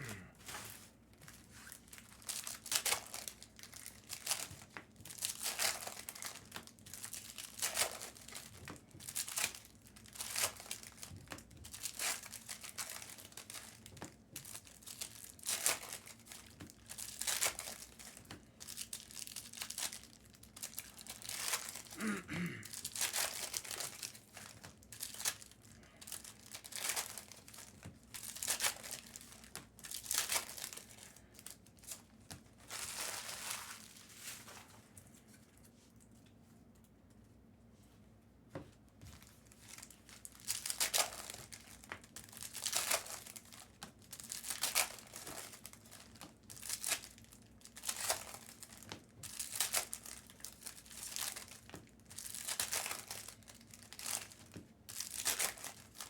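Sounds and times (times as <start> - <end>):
foil wrappers tearing and crinkling: 0.0 - 34.8, 39.1 - 56.0.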